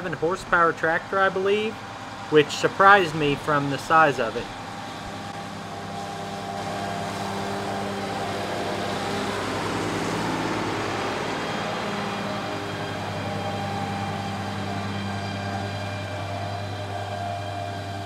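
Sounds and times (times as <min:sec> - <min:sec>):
tractor diesel engine running: 0:00.0 - 0:18.0
mower rushing hiss: 0:02.1 - 0:18.0.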